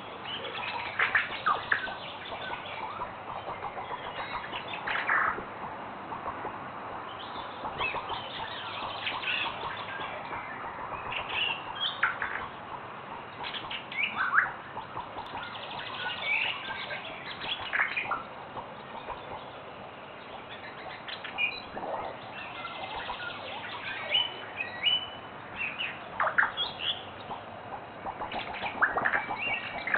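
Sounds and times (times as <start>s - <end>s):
birds chirping and whistling: 0.0s - 5.4s, 7.0s - 19.6s, 20.2s - 29.9s.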